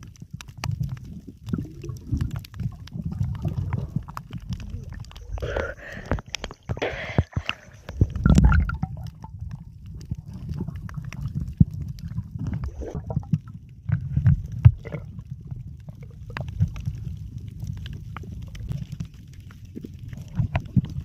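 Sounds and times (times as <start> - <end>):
underwater water rumbling and gurgling: 0.0 - 21.0.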